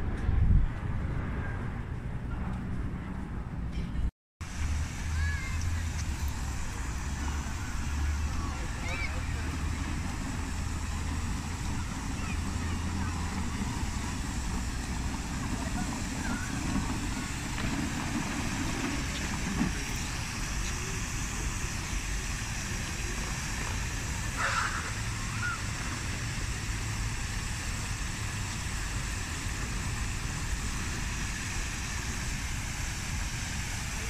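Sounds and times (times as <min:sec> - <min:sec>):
hiss: 0:04.4 - 0:34.0.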